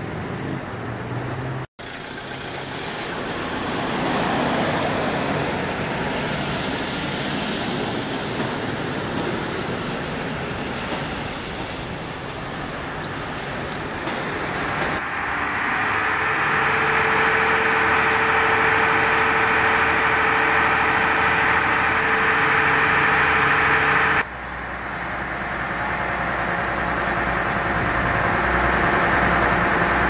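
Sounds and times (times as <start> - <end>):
car engines running: 0.0 - 30.0.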